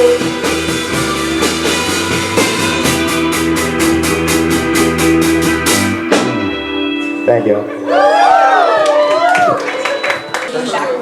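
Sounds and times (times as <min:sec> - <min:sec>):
rock band playing: 0:00.0 - 0:10.8.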